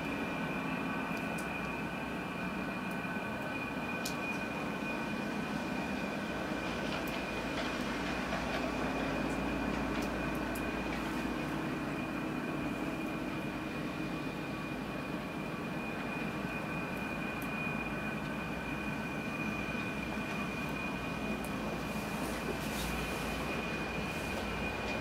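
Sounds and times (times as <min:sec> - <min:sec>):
low mechanical rumble: 0:00.0 - 0:25.0
thin high whine: 0:00.0 - 0:25.0.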